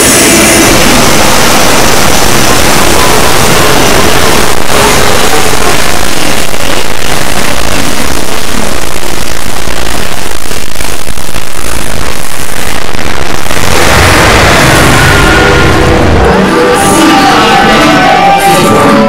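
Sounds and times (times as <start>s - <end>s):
distorted noise of overlaid song: 0.0s - 19.0s.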